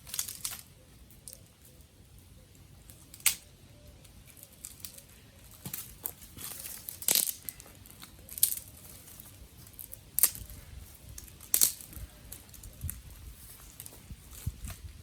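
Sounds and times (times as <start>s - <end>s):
dry twigs snapping: 0.0s - 15.0s.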